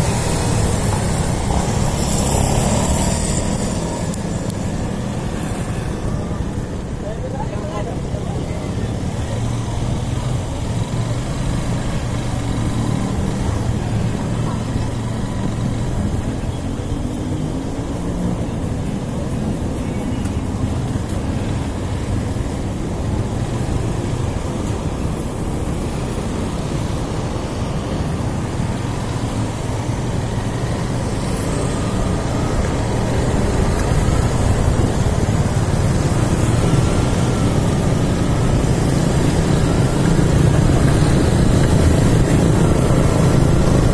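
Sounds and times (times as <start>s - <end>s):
road noise: 0.0s - 43.9s.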